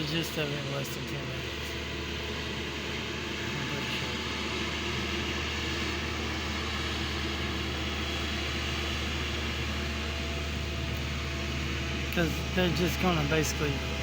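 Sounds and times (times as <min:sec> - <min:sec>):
paving machine engine droning: 0:00.0 - 0:14.0.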